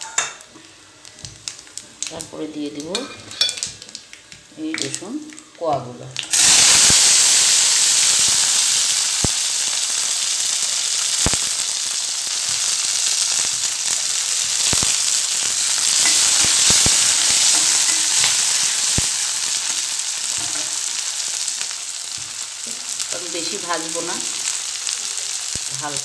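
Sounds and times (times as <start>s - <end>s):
garlic sizzling in oil: 0.0s - 26.0s.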